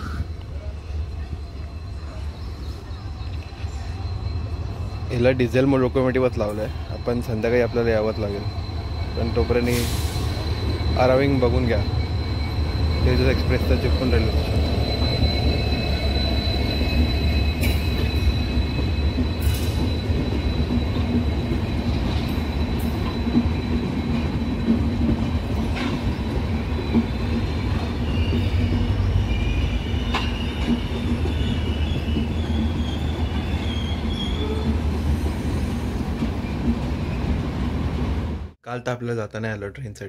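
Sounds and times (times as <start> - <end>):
train wheels rumbling on rails: 0.0 - 38.6
high wheel squeal: 1.5 - 37.4.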